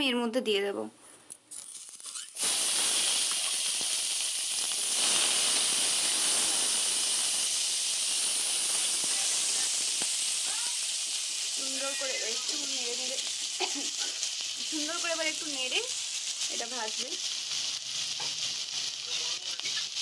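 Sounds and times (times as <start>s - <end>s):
onions sizzling in hot oil: 1.5s - 20.0s.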